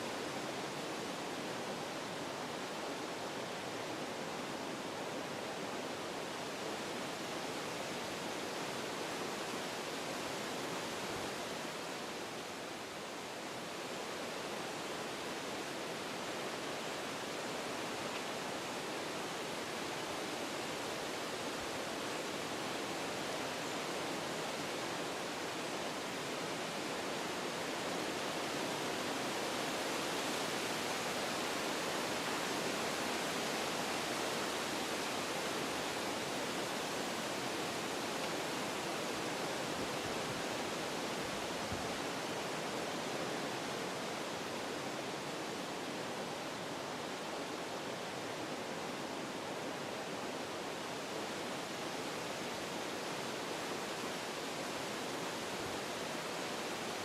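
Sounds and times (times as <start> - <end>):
wind blowing through trees: 0.0 - 57.0.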